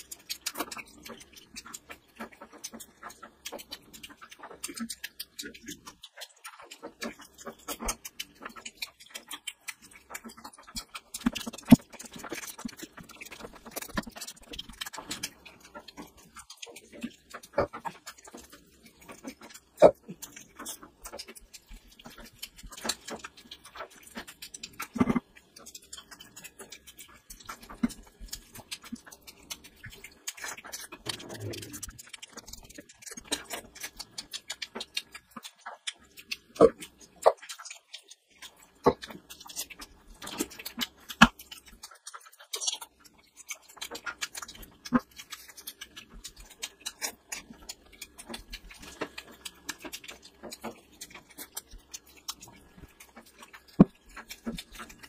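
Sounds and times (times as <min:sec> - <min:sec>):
wet chewing and lip-smacking: 0:00.0 - 0:55.0.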